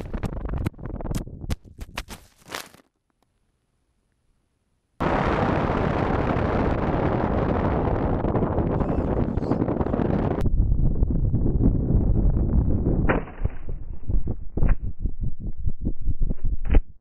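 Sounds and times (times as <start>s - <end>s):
wind rush over camera: 0.0s - 2.3s, 5.0s - 17.0s.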